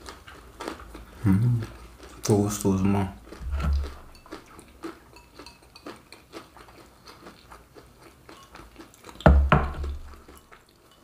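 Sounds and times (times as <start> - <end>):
chewing with wet mouth clicks: 0.0 - 11.0.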